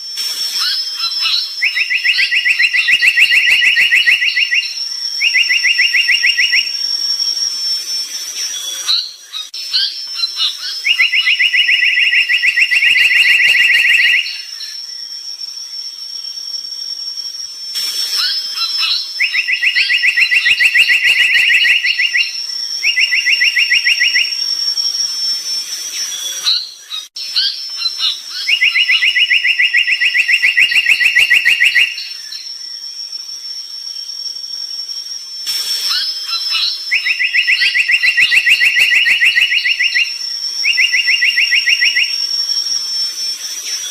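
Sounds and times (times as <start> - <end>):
high-pitched whine: 0.0 - 43.9
songbird chirps and trill: 0.0 - 43.9.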